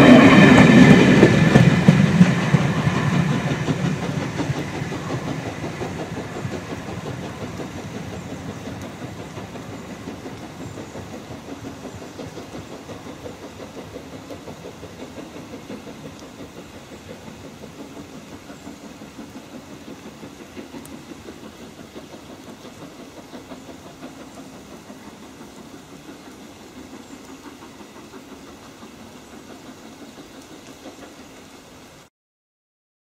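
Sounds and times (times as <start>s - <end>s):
steam locomotive exhaust beats: 0.0s - 32.1s.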